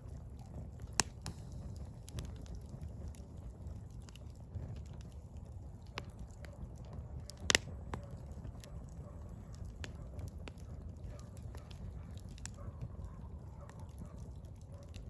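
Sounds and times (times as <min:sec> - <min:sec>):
firewood burning rumble: 0:00.0 - 0:15.0
small fire crackles: 0:00.0 - 0:15.0.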